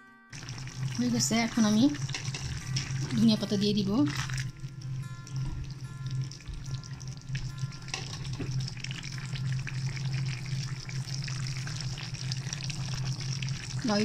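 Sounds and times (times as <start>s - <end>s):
curry bubbling and sizzling: 0.4s - 14.0s
low hum: 0.4s - 14.0s.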